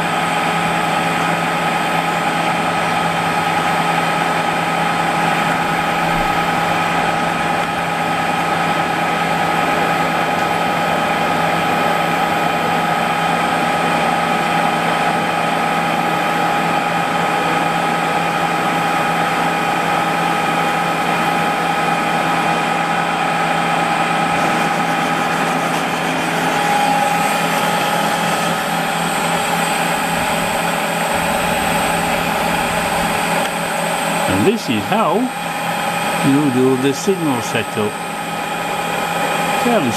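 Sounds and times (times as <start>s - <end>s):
lathe running with whine: 0.0s - 39.9s.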